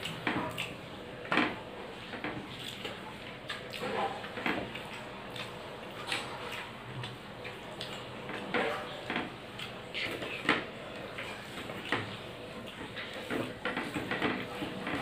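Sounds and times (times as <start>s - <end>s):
chewing and mouth-smacking: 0.0s - 0.9s, 2.0s - 15.0s
fingers working food on plate: 0.0s - 15.0s.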